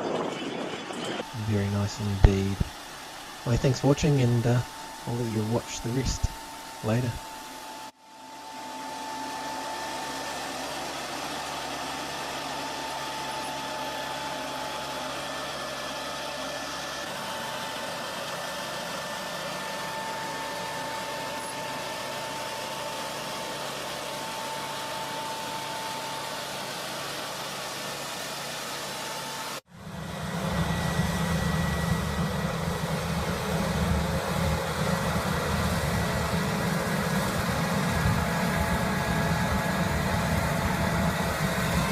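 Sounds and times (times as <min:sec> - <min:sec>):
faint high whine: 0:00.0 - 0:14.8, 0:16.7 - 0:41.9
machine engine running: 0:00.0 - 0:41.9
loud deep engine: 0:01.2 - 0:07.9, 0:08.8 - 0:41.9.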